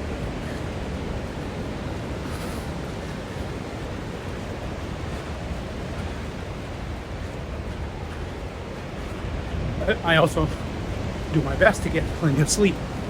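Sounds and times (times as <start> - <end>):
ocean surf on a beach: 0.0 - 13.0
wind buffeting microphone: 0.0 - 13.0.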